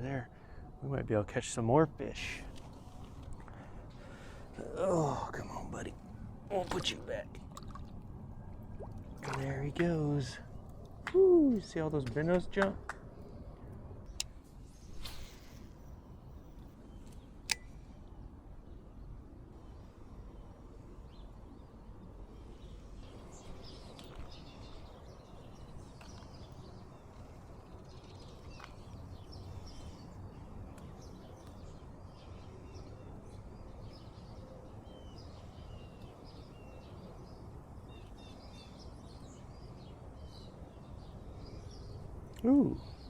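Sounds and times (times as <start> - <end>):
small birds chirping: 1.4 - 43.0.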